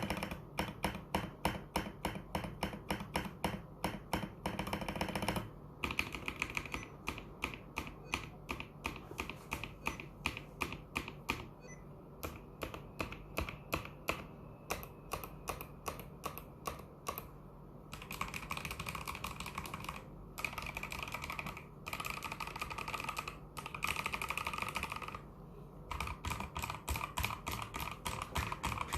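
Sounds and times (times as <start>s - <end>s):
mechanical keyboard typing: 0.0s - 25.3s, 25.9s - 28.9s.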